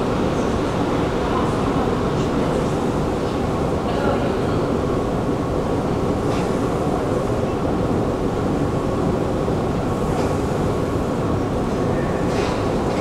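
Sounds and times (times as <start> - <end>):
metro station rumble: 0.0 - 13.0.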